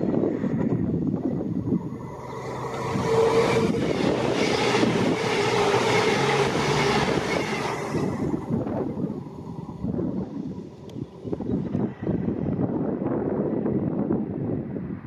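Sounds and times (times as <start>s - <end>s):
diesel engines humming: 0.0s - 12.1s
train wheels rushing on rail: 0.0s - 13.7s.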